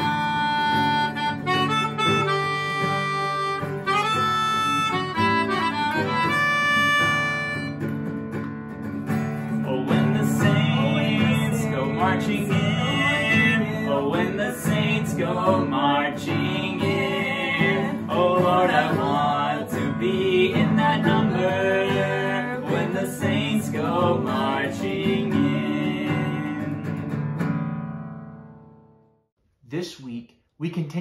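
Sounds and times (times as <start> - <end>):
person singing: 0.0 - 7.8, 9.6 - 27.0
acoustic guitar: 0.0 - 29.3.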